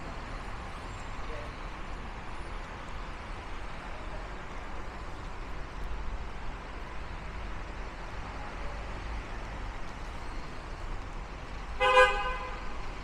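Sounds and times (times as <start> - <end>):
traffic on wet streets: 0.0 - 13.0.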